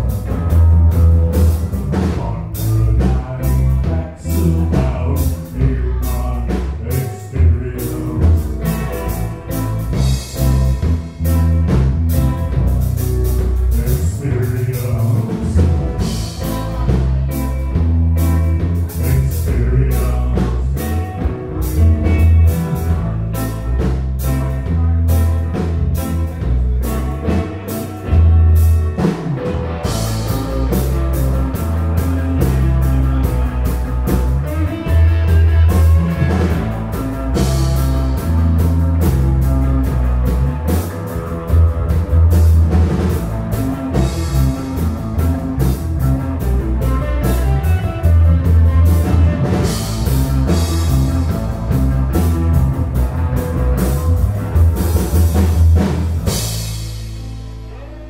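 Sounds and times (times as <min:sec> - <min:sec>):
amplified electric guitar: 0:00.0 - 0:58.0
drum kit beat: 0:00.0 - 0:58.0
heavy bass guitar: 0:00.0 - 0:58.0.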